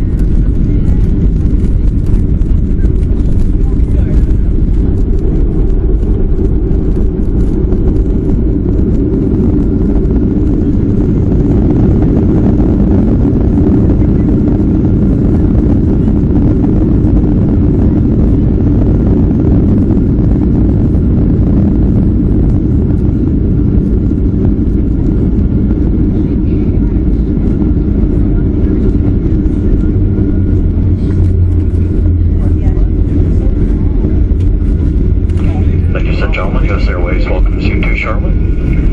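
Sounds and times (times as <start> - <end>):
low rumble inside airliner cabin: 0.0 - 38.9.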